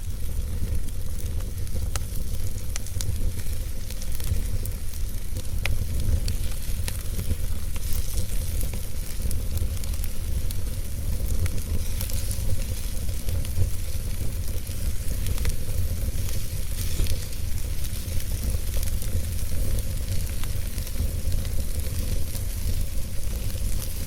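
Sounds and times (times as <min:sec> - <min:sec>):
fire popping and snapping: 0:00.0 - 0:24.0
fire rumble and hiss: 0:00.0 - 0:24.0.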